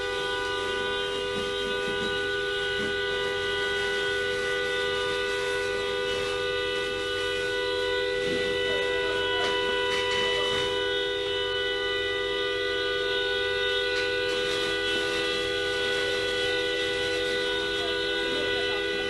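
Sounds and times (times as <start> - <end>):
steady horn-like tone: 0.0 - 19.0.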